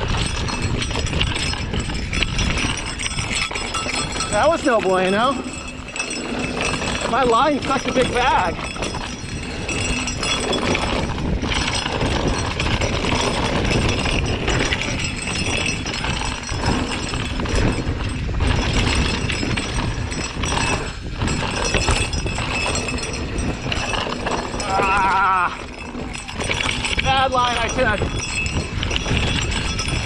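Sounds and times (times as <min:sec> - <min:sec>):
bike chain and frame rattling: 0:00.0 - 0:30.0.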